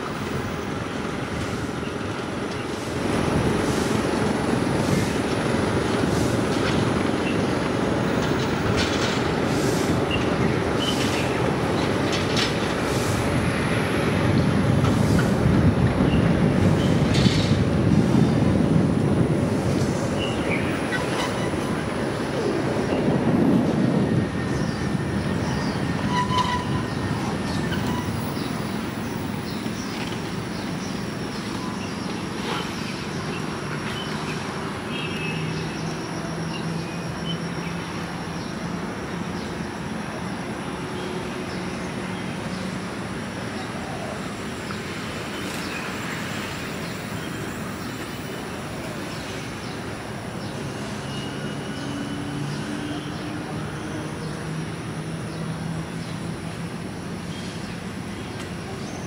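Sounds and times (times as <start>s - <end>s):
car driving on city street: 0.0s - 59.0s.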